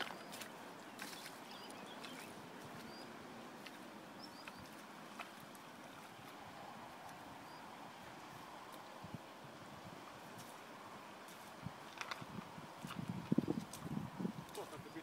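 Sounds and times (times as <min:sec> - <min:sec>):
river running over stones: 0:00.0 - 0:14.6.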